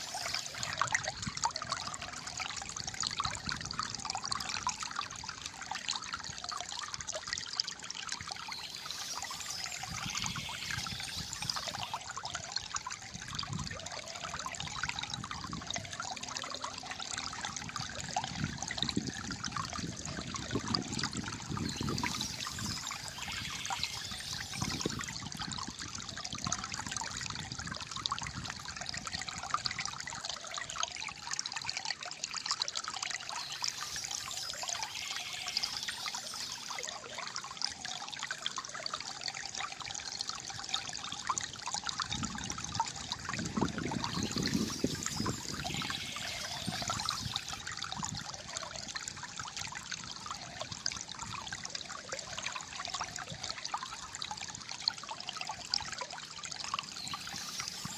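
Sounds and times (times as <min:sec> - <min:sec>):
water trickling and gurgling: 0:00.0 - 0:57.9.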